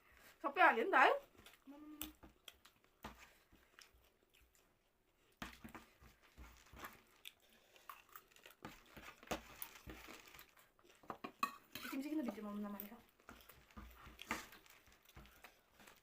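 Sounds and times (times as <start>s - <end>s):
crunching puffed rice: 1.3s - 16.0s.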